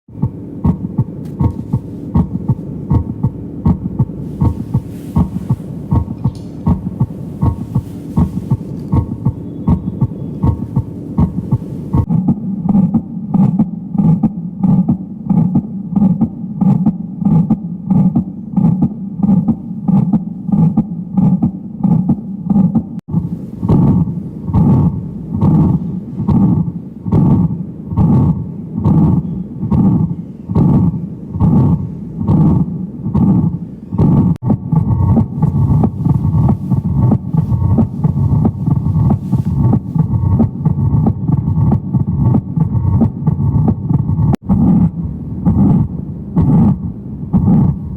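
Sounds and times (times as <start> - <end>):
heartbeat lub-dub: 0.1 - 47.9
steady low hum: 0.1 - 47.9.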